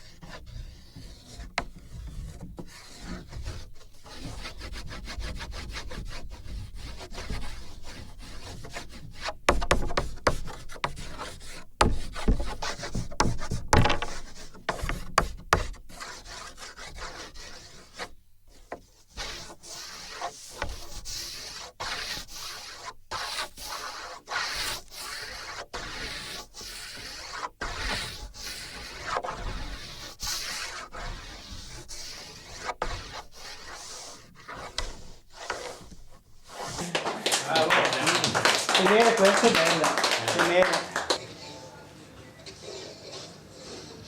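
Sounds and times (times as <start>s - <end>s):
drawing strokes on wooden board: 0.0s - 36.8s.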